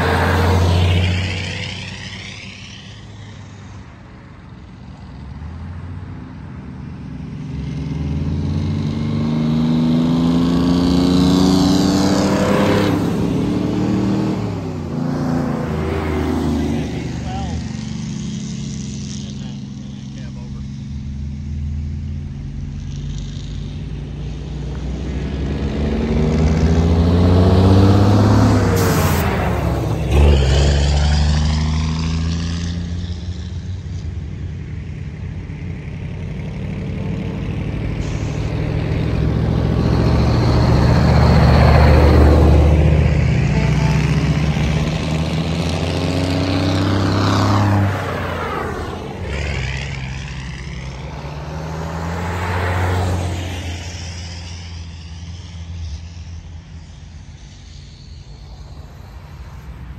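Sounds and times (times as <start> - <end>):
truck engines driving past: 0.0 - 59.9.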